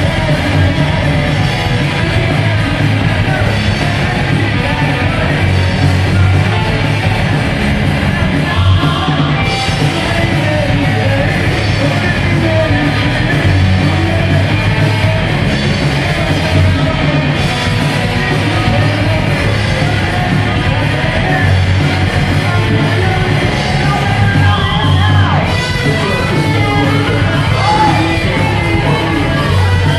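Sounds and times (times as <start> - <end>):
singer singing into microphone: 0.0 - 7.4, 8.0 - 29.9
live rock band playing: 0.0 - 29.9.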